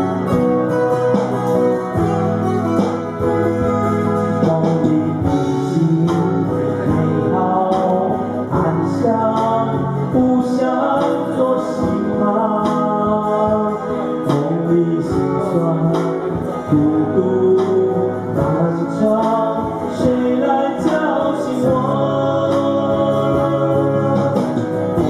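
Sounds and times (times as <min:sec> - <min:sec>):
strummed acoustic guitars: 0:00.0 - 0:25.0
man singing slow song: 0:04.1 - 0:25.0.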